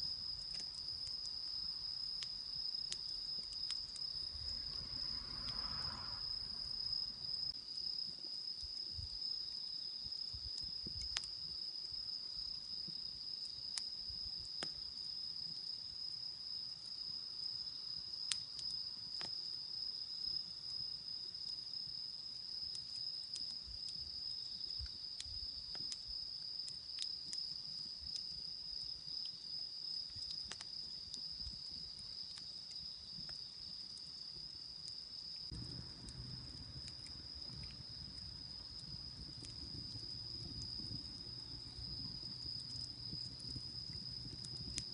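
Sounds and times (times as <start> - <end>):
wood fire popping: 0.0 - 17.0, 20.4 - 44.9.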